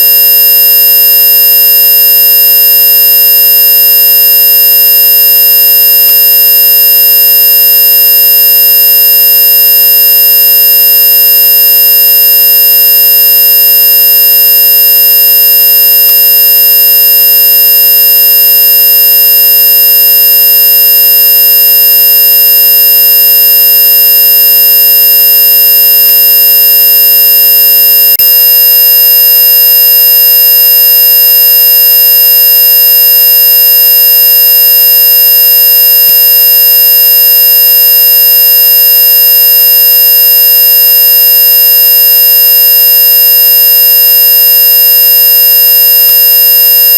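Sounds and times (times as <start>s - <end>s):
electronic hearing-test tone: 0.0s - 38.6s, 39.2s - 46.9s.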